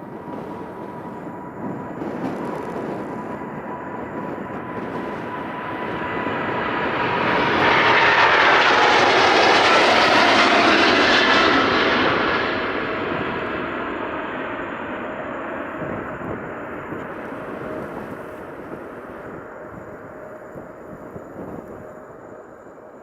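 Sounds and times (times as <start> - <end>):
jet airliner engines: 0.0 - 23.0.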